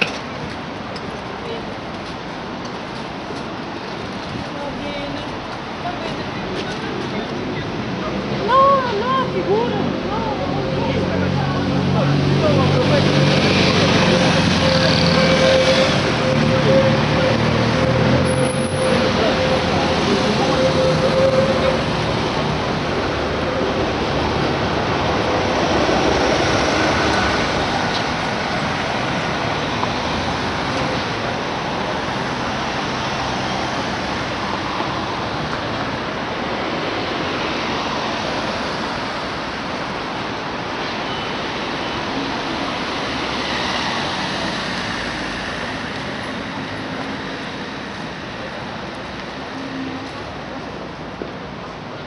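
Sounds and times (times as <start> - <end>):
street traffic passing: 0.0 - 52.0.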